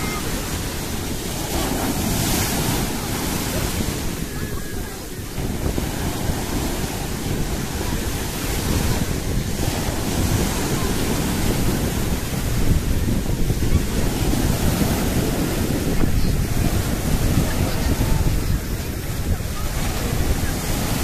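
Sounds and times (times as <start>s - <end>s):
surf breaking on shore: 0.0s - 21.0s
wind buffeting microphone: 0.0s - 21.0s.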